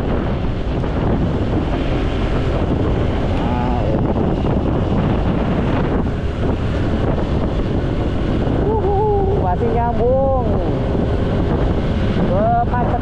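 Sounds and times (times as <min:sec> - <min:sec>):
motorcycle engine: 0:00.0 - 0:13.0
surrounding traffic: 0:00.0 - 0:13.0
wind buffeting microphone: 0:00.0 - 0:13.0.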